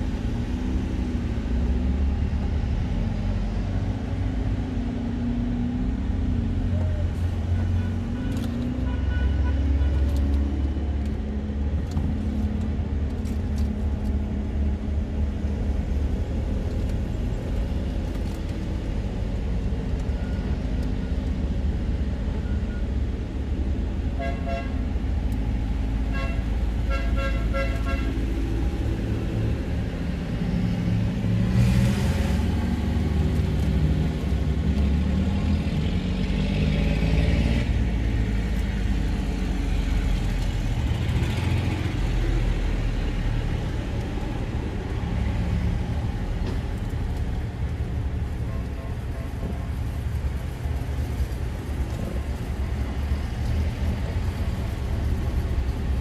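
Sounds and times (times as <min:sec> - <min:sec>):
tractor engines rumbling: 0:00.0 - 0:56.0.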